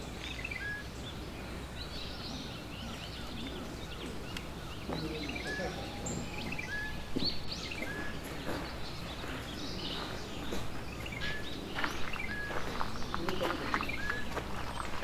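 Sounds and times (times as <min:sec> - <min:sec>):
birds whistling: 0:00.0 - 0:15.0.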